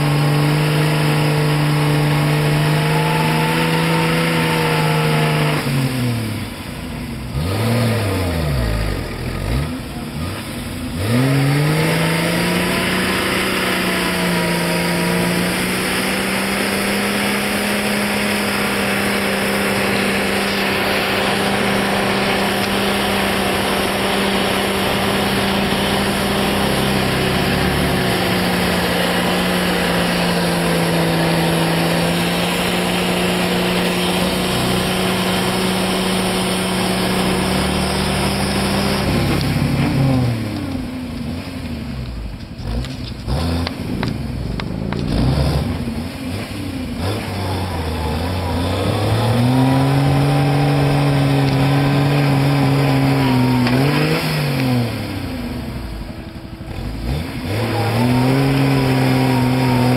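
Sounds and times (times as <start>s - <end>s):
engine revving: 0.0s - 59.9s
tires churning through mud: 0.0s - 59.9s.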